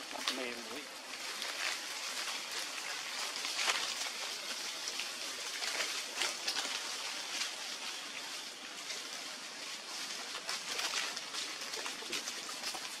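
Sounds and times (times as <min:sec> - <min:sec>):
faint rustles and ticks: 0:00.0 - 0:13.0
outdoor background hiss: 0:00.0 - 0:13.0.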